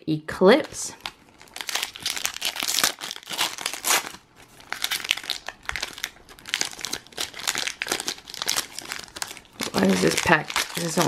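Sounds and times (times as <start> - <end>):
foil wrapper crinkling and tearing: 0.6 - 11.0.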